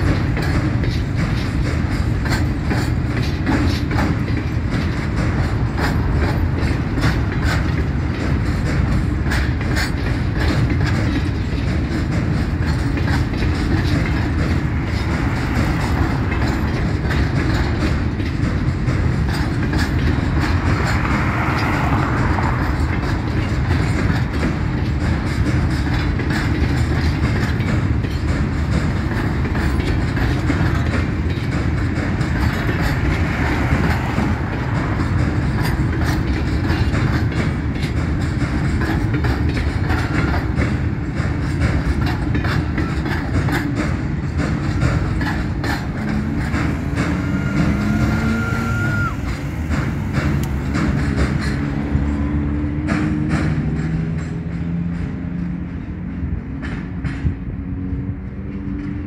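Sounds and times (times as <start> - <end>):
train wheels rumbling on rails: 0.0 - 59.0
wheels clicking over rail joints: 0.0 - 59.0.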